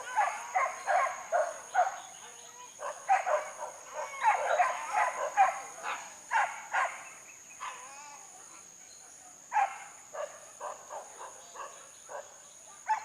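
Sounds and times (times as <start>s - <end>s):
hunting dogs yelping and barking: 0.0s - 7.9s, 9.5s - 13.0s.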